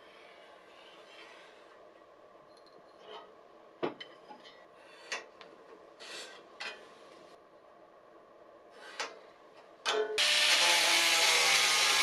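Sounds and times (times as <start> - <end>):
faint steady hum: 0.0 - 10.2.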